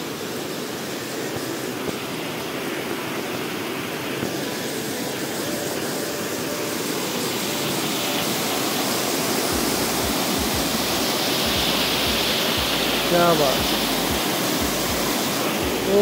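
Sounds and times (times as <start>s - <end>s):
waterfall rushing water: 0.0s - 16.0s.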